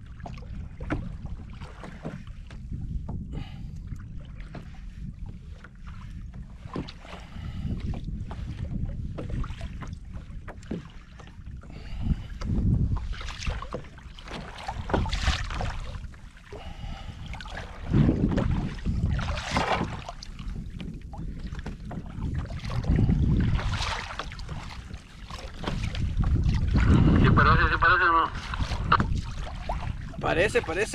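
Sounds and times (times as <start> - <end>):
water splashing against hull: 0.0 - 30.9
wind buffeting microphone: 0.0 - 30.9.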